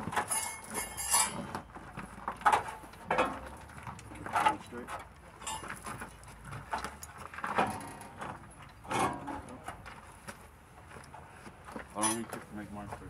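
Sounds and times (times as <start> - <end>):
clunks and scrapes on engine: 0.0 - 13.0.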